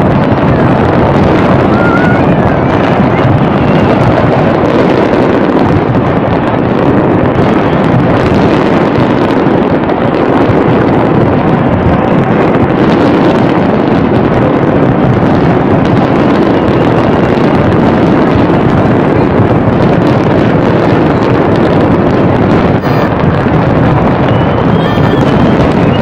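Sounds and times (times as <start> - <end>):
fireworks bursts and crackles: 0.0 - 26.0.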